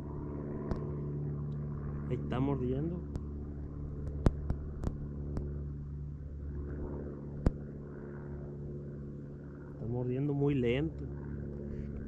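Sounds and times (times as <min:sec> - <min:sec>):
motor droning: 0:00.0 - 0:12.0.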